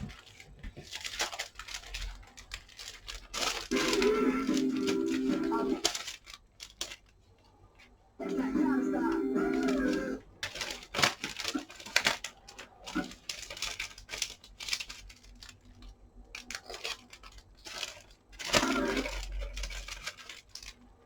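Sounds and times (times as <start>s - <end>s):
materials rustling and crinkling: 0.0s - 21.0s.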